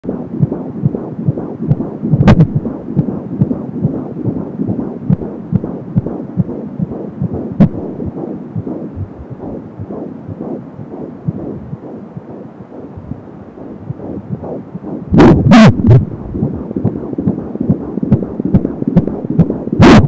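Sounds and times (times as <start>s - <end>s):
fetal heartbeat whooshing thumps: 0.0s - 20.0s.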